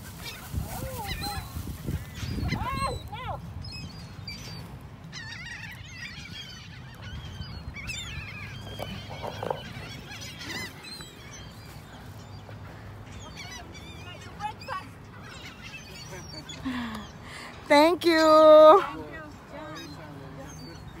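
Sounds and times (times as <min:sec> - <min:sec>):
seagulls calling: 0:00.0 - 0:21.0.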